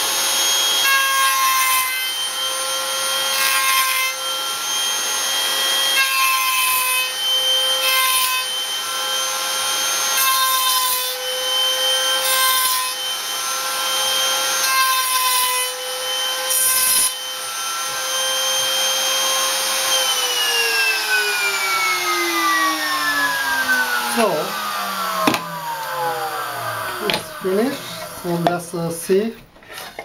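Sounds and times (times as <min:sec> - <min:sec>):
router bit cutting wood: 0:00.0 - 0:30.0
router whining: 0:00.0 - 0:30.0.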